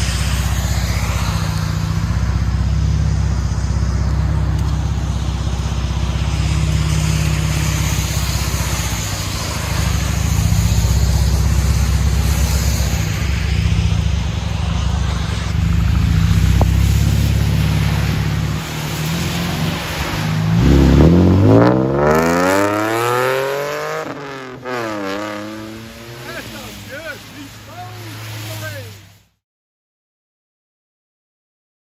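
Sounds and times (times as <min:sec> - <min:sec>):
steady hiss: 0:00.0 - 0:21.0, 0:24.6 - 0:29.3
deep car exhaust note: 0:00.0 - 0:26.6.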